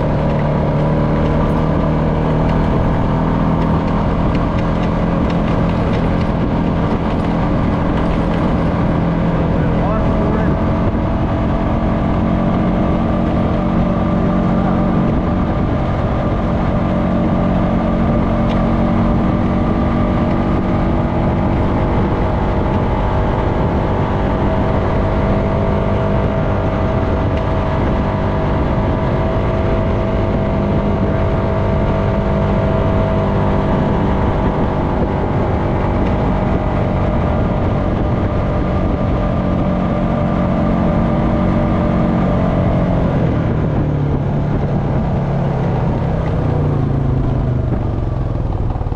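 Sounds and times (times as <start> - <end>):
atv engine running: 0.0 - 48.9
tyre and wind noise: 0.0 - 48.9.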